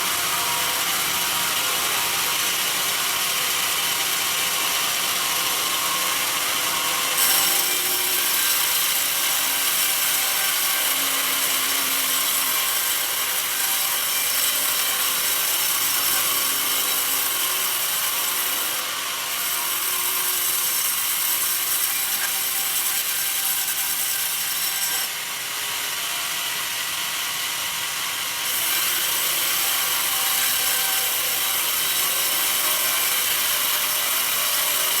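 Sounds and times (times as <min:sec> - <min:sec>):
band saw cutting log: 0:00.0 - 0:35.0.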